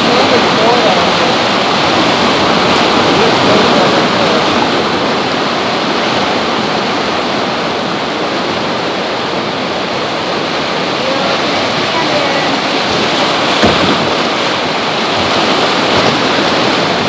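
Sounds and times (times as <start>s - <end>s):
whitewater rushing through gorge: 0.0s - 17.0s.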